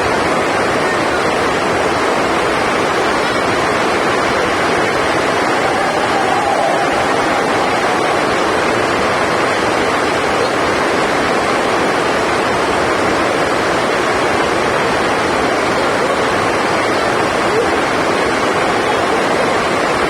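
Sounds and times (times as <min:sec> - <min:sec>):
heavy rain drumming on roof: 0:00.0 - 0:20.0.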